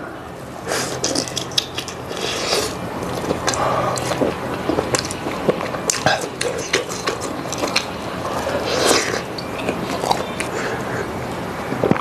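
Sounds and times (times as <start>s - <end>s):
person biting and chewing: 0.7s - 10.7s.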